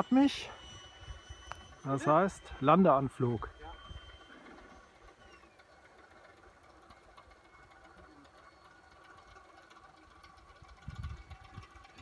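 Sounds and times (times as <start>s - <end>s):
distant model jet whine: 0.0s - 12.0s.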